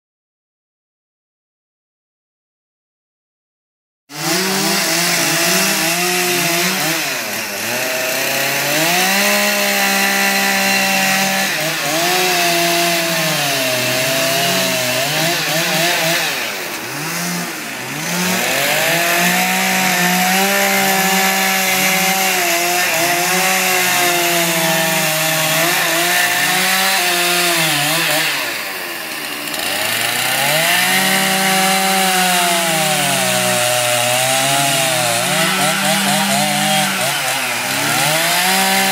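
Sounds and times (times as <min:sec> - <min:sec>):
chainsaw cutting wood: 0:04.1 - 0:38.9.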